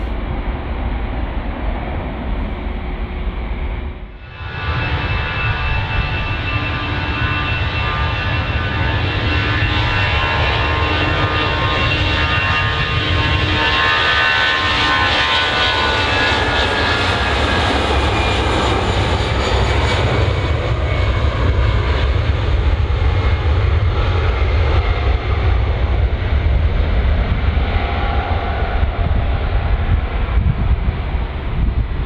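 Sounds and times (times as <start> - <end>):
jet engine deep rumble: 0.0 - 32.0
jet engine whine: 0.0 - 32.0.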